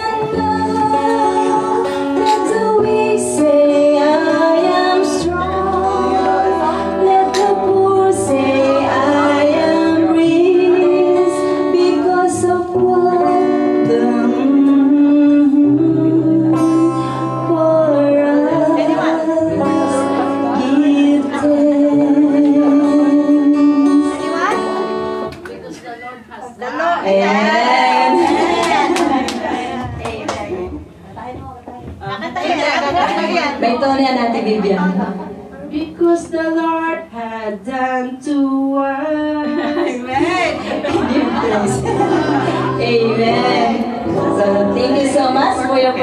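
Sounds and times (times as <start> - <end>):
woman singing: 0.0 - 24.9, 27.0 - 29.2, 35.8 - 46.0
guitar: 0.0 - 46.0.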